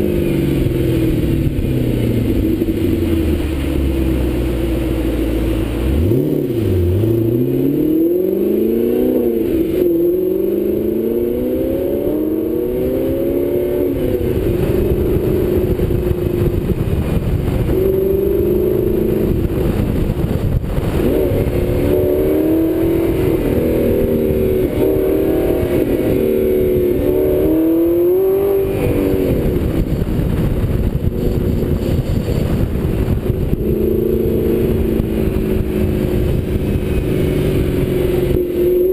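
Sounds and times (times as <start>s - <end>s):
car engine revving through gears: 0.0s - 38.9s
wind and road noise: 0.0s - 38.9s.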